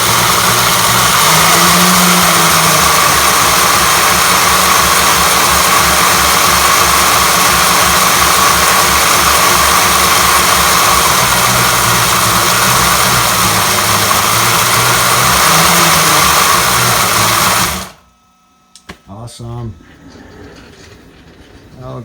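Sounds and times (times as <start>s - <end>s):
electric motor and gear whine: 0.0s - 22.0s.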